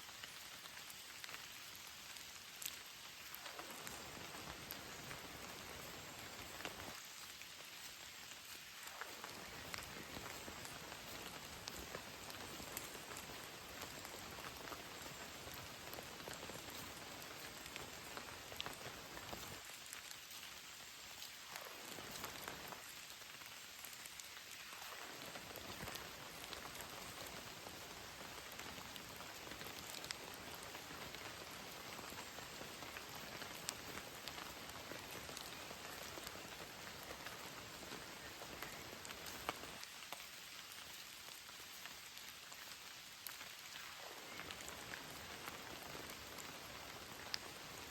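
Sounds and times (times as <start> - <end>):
rain falling: 0.0 - 47.9
raindrops ticking on surface: 0.0 - 47.9.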